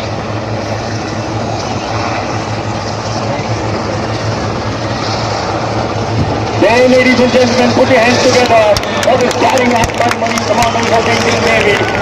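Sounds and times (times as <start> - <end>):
helicopter drone: 0.0 - 12.0.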